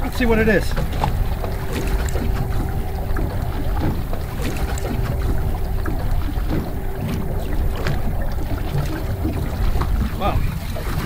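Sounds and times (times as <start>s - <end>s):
faint steady hum: 0.0s - 11.0s
wind and water rumble: 0.0s - 11.0s.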